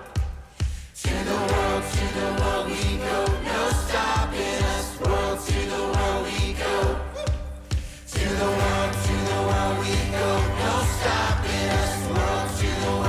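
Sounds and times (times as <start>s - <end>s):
voices singing over a beat: 0.0s - 13.0s.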